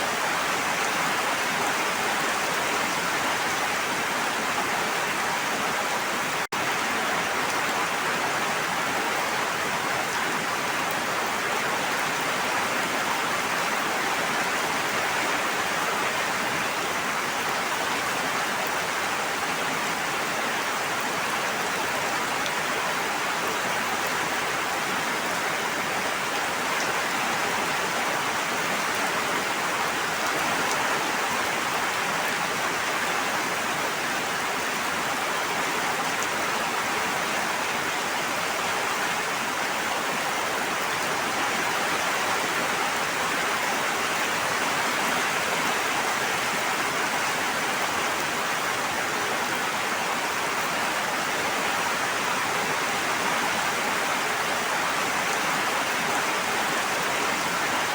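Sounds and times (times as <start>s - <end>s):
rushing water: 0.0s - 57.9s.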